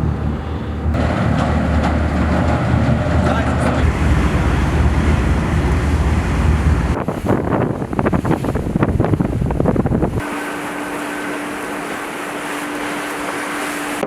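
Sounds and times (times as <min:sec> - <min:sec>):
water rushing past boat: 0:00.0 - 0:14.0
wind buffeting microphone: 0:00.0 - 0:14.0.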